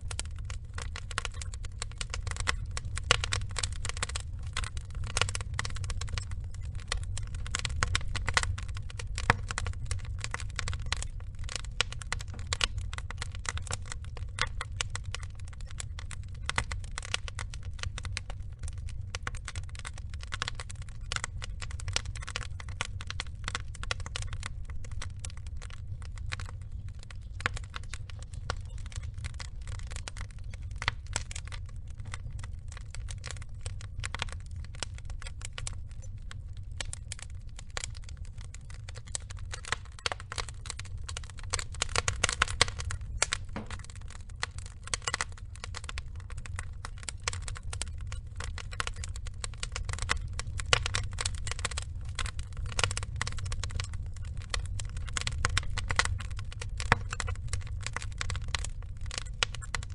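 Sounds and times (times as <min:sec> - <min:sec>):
fire low rumble: 0:00.0 - 0:59.9
logs crackling and popping: 0:00.0 - 0:59.9.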